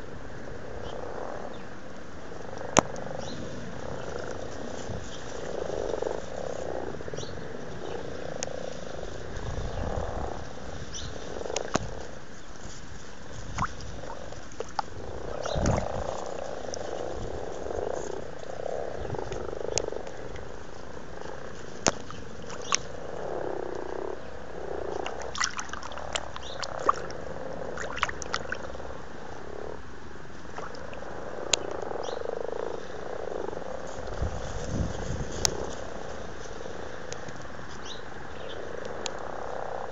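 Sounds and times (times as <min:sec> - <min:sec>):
frogs purring croaks: 0:00.0 - 0:39.9.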